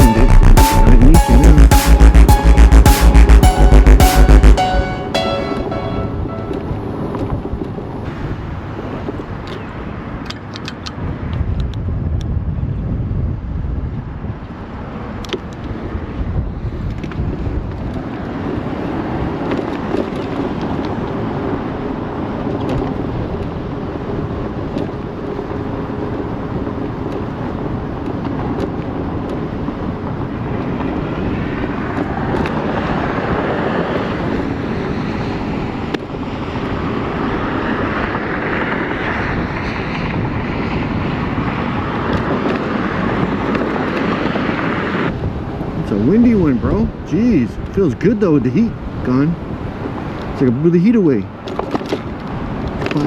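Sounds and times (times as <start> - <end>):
wind rushing over microphone: 6.3 - 50.5, 51.2 - 53.0.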